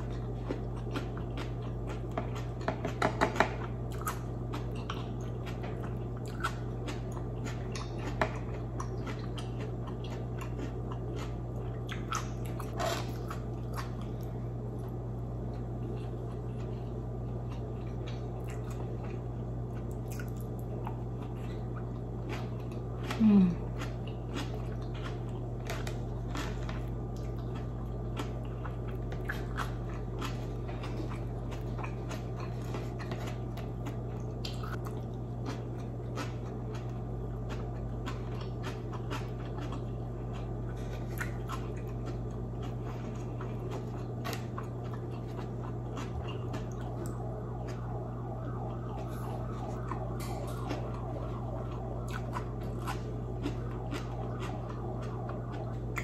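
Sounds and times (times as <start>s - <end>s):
chewing and wet mouth sounds: 0.0s - 56.0s
steady low hum: 0.0s - 56.0s.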